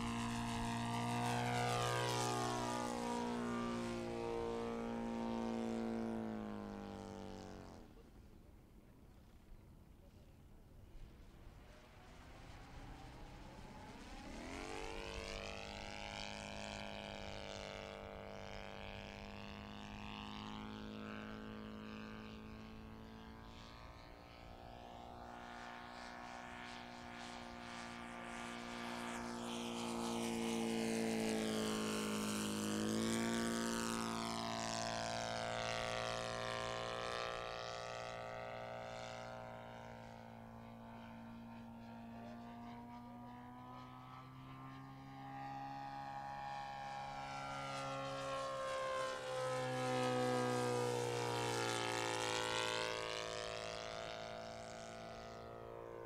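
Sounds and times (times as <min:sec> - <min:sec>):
model airplane engine and propeller: 0:00.0 - 0:56.0.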